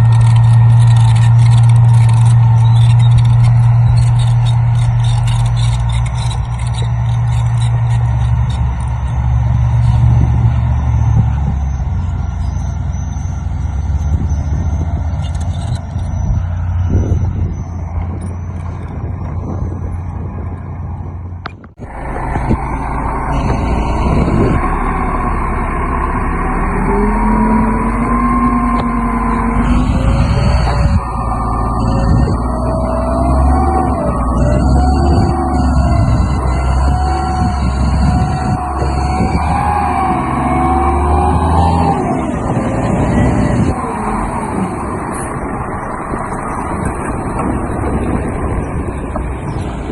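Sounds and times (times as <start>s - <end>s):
engine revving: 0.0s - 49.9s
heavy diesel engines running: 0.0s - 49.9s.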